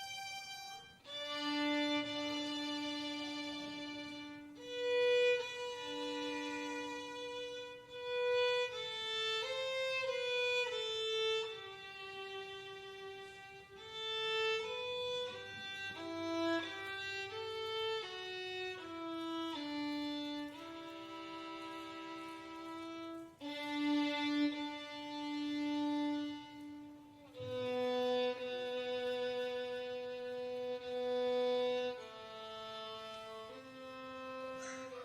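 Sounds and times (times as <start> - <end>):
violin playing slow melody: 0.0 - 35.0.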